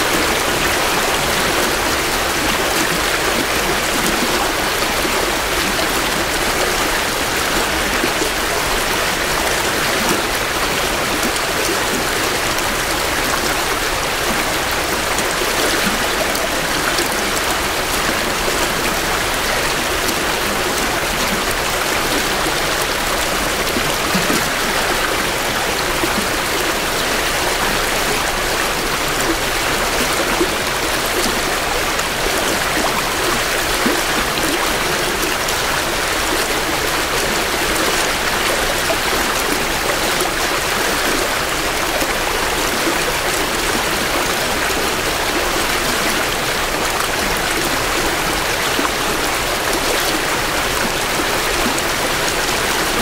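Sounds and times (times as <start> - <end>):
creek burbling over rocks: 0.0 - 53.0.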